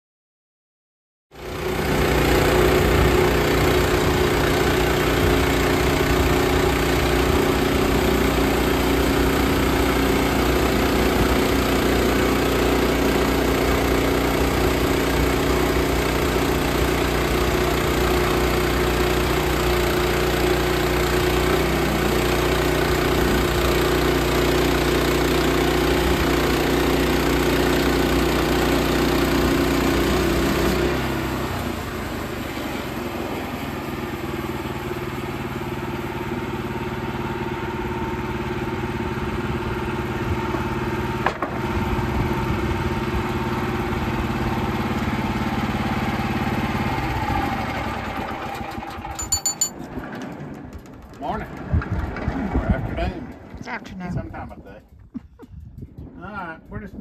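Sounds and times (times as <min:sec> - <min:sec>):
gasoline engine running: 0:01.4 - 0:57.0.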